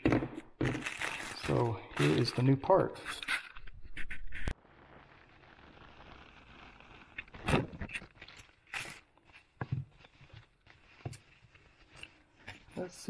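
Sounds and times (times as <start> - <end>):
plastic packaging scrapes and rustles: 0.6 - 13.0.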